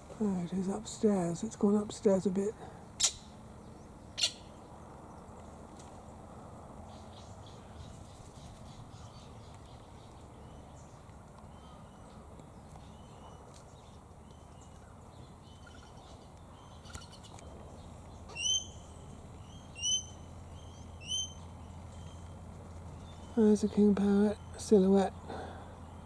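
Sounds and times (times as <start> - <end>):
distant bird chirps: 0.0 - 26.0
low background rumble: 0.0 - 26.0.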